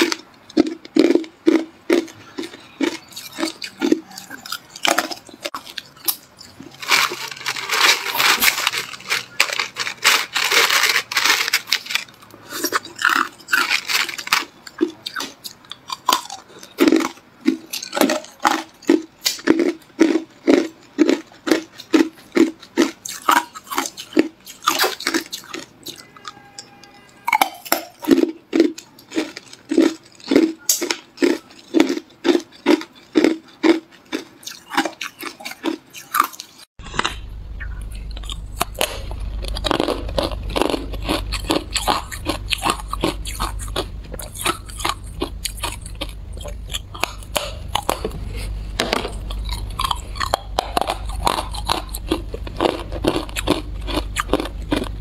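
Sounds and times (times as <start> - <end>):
person crunching ice: 0.0 - 55.0.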